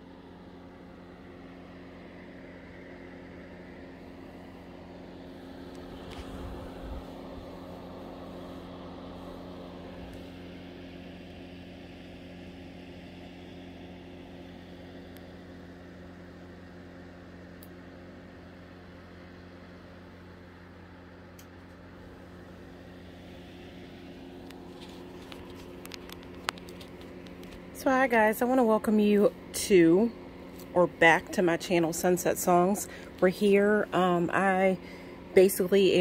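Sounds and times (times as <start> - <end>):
low hum: 0.0 - 12.8, 18.3 - 36.0.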